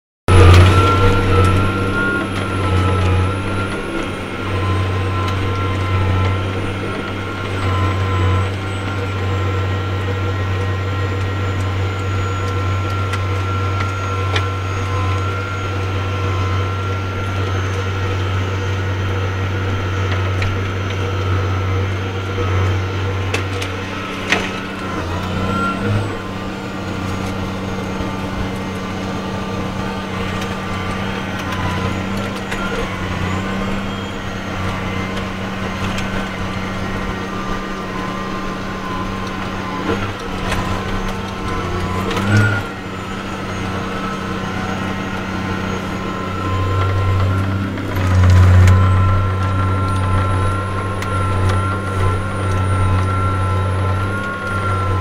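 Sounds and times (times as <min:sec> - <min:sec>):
tractor diesel engine under load: 0:00.0 - 0:55.0
high whine falling in pitch: 0:00.3 - 0:55.0.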